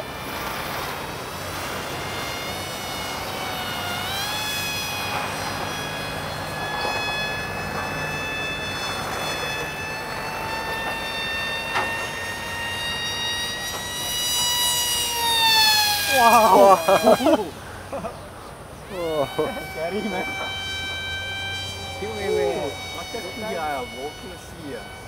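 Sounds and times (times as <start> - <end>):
model plane motor whining: 0.0 - 25.0.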